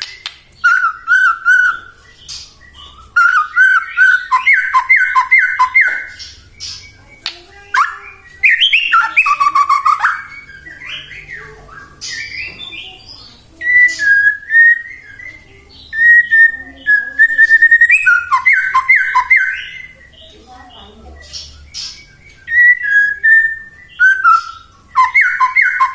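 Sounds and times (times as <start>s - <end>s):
songbird whistling varied song: 0.0s - 25.9s.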